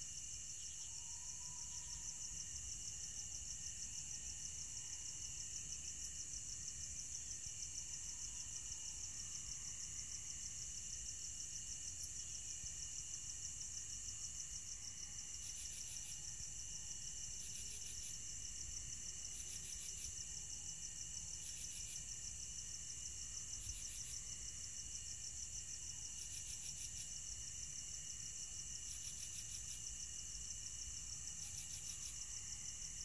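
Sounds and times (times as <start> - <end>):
crickets trilling: 0.2 - 33.0.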